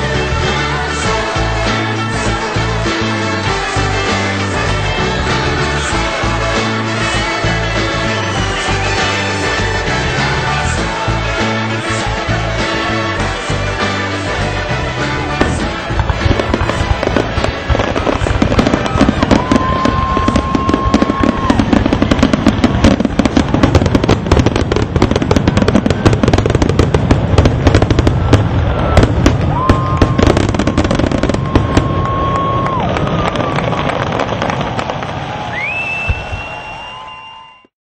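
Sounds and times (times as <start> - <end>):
fireworks bangs and crackling: 0.0 - 37.6
firework whistles: 5.9 - 14.4, 15.3 - 37.7.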